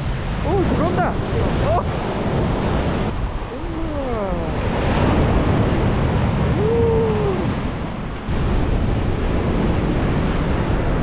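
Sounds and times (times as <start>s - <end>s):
waves washing over sandy beach: 0.0s - 11.0s.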